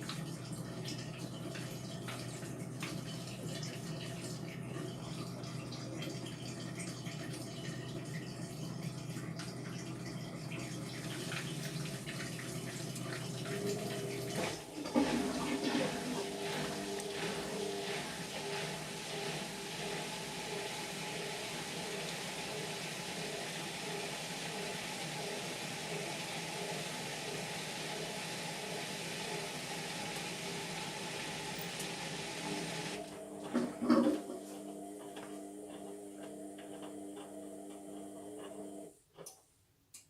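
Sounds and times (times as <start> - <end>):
water gurgles: 0.0 - 34.4
water rushing in washing machine: 0.0 - 39.0
washing machine hum: 0.0 - 40.0.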